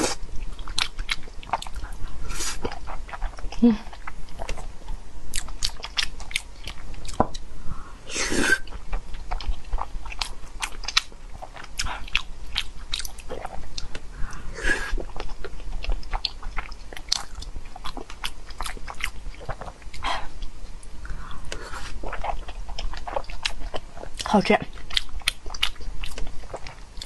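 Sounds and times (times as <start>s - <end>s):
wet chewing and smacking: 0.3s - 7.5s, 8.6s - 14.0s, 14.9s - 27.0s.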